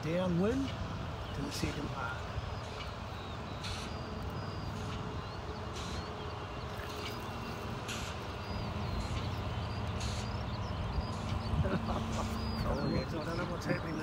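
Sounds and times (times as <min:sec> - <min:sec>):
small birds chirping: 0:00.0 - 0:14.0
wind buffeting microphone: 0:00.0 - 0:14.0.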